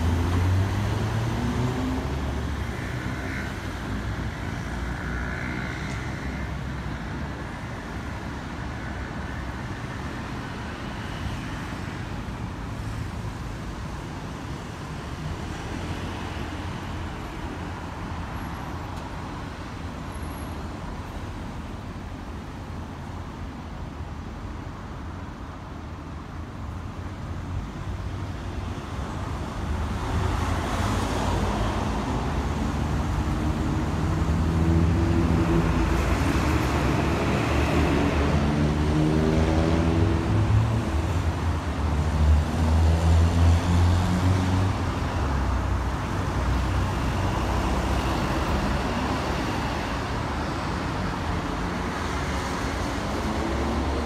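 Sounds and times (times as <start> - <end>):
road traffic of cars and trucks: 0.0 - 54.0.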